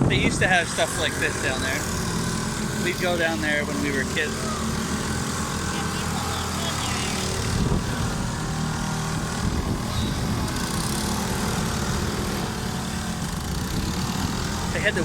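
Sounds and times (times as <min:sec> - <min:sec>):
small boat engines droning: 0:00.0 - 0:15.0.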